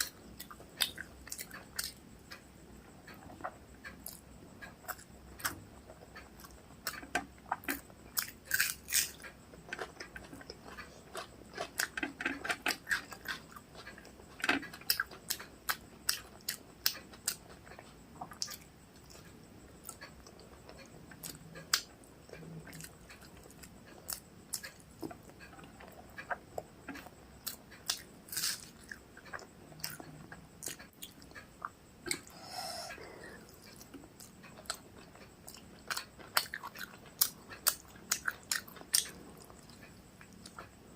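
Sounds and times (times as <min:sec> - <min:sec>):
chewing food: 0:00.0 - 0:40.8.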